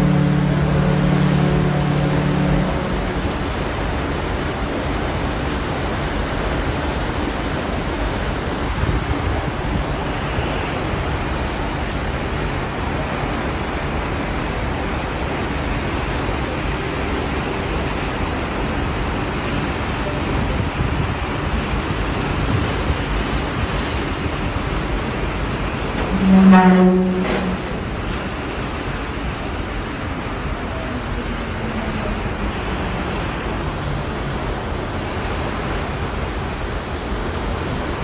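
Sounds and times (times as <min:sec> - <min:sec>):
rush of churned water: 0:00.0 - 0:38.0.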